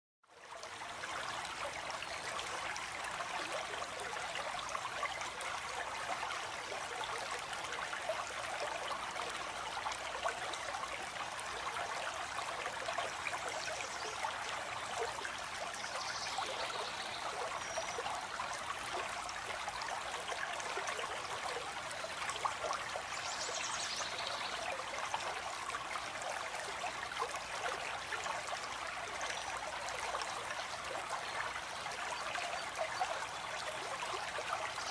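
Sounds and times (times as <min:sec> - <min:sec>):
stream water flowing: 0:00.3 - 0:34.9.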